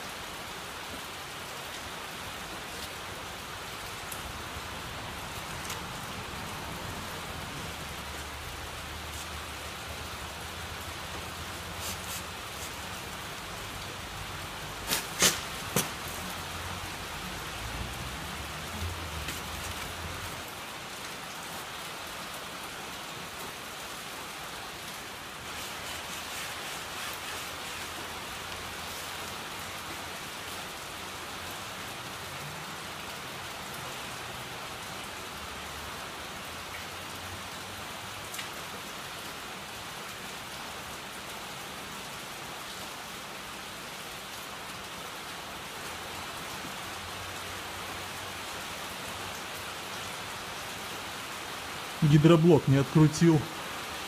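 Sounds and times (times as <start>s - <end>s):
rain hissing: 0.0s - 54.0s.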